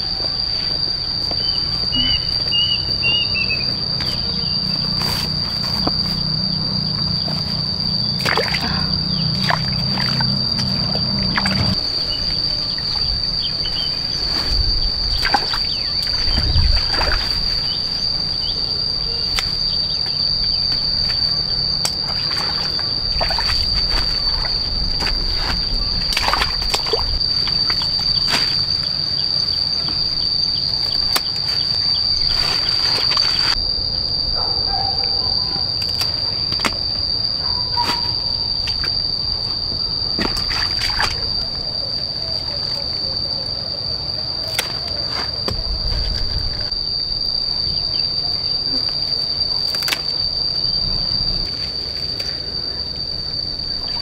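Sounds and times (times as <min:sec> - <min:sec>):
insects singing high tone: 0:00.0 - 0:54.0.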